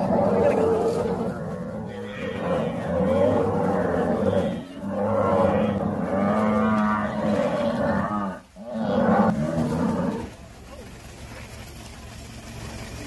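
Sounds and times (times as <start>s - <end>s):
buffalo bellowing: 0.0s - 10.5s.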